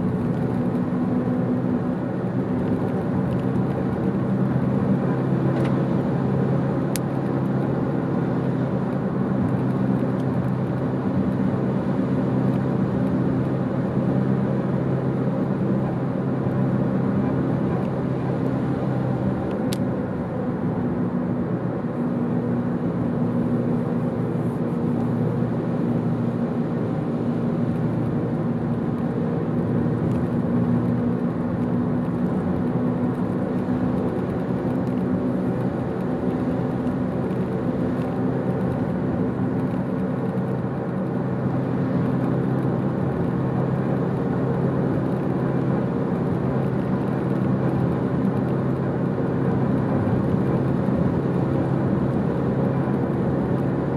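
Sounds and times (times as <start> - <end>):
car engine hum: 0.0 - 53.9.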